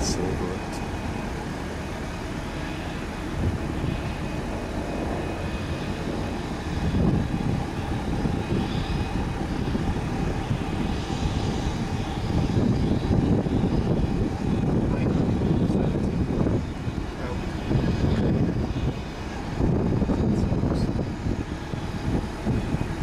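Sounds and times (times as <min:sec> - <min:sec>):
distant aircraft engines whine: 0:00.0 - 0:23.0
wind gusting on microphone: 0:00.0 - 0:23.0.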